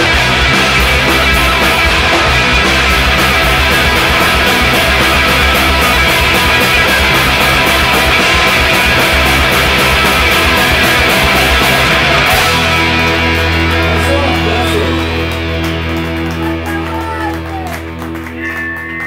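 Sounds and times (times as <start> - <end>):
drums and cymbals: 0.0 - 15.4
bass guitar: 0.0 - 19.0
electric guitars: 0.0 - 19.0.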